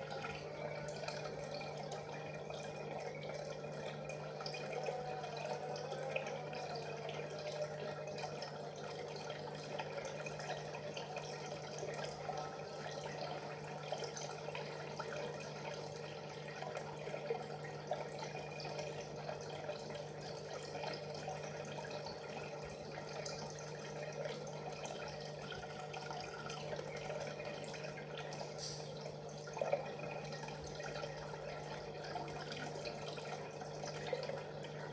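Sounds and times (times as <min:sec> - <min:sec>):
water trickling and dripping: 0:00.0 - 0:34.9.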